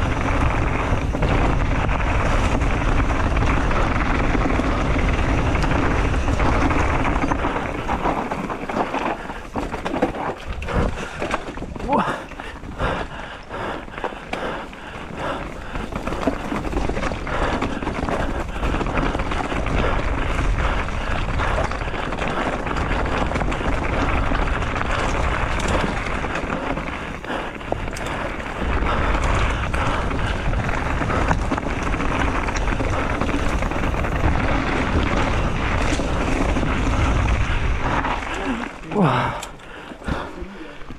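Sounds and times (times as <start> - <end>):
wind buffeting microphone: 0.0 - 40.3
bike rattling over bumps: 0.0 - 40.9
tyres rolling over dirt and stones: 0.0 - 40.9.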